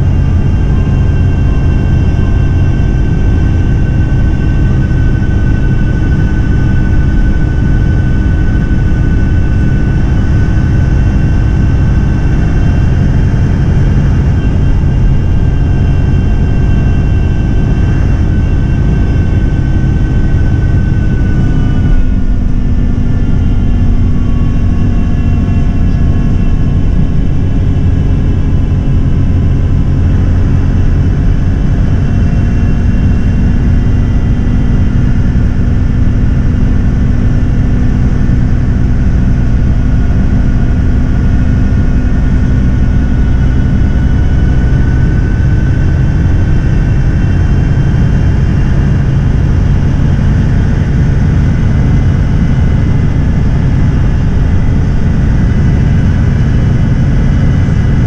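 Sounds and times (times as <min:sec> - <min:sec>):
coach diesel engine droning: 0:00.0 - 0:58.0.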